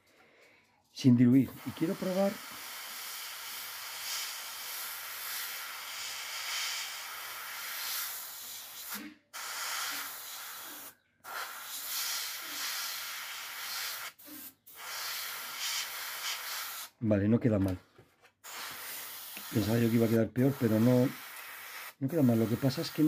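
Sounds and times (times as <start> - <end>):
airbrush hissing: 1.4 - 17.0, 18.4 - 23.0.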